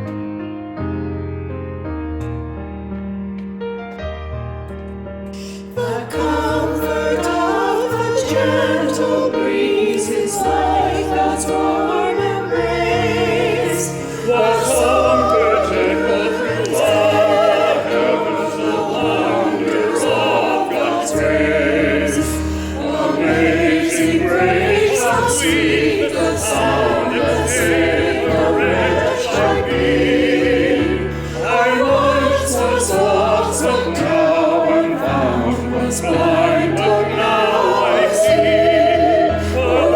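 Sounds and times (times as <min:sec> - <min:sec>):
keyboard accompaniment: 0:00.0 - 0:39.9
voices singing with vibrato: 0:05.8 - 0:39.9.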